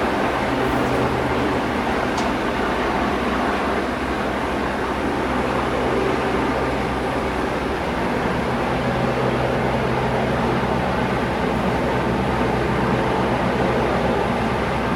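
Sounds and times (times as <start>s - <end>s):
heavy engine running: 0.0s - 14.9s.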